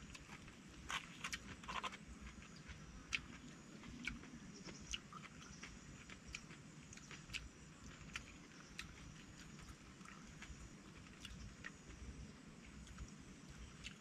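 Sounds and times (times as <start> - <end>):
chewing and crunching food: 0.0 - 14.0.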